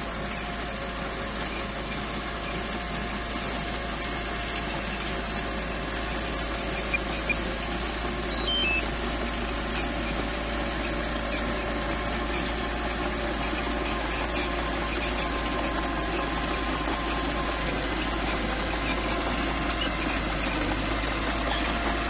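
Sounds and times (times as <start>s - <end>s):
bulldozer engine running: 0.0s - 22.0s.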